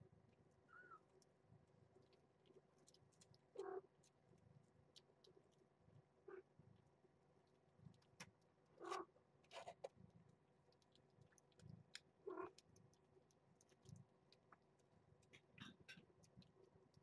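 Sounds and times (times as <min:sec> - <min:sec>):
cats eating: 0:00.0 - 0:17.0.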